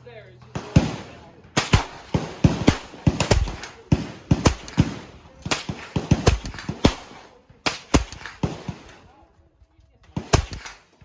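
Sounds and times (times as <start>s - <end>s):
rifle shots: 0.5s - 9.1s, 10.1s - 11.0s.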